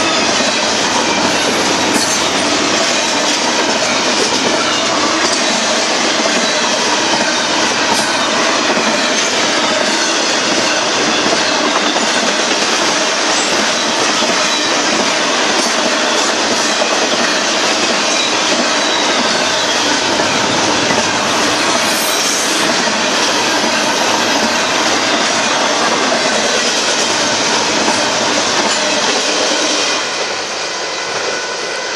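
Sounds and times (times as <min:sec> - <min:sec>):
freight train wheels rolling on rail: 0:00.0 - 0:31.9.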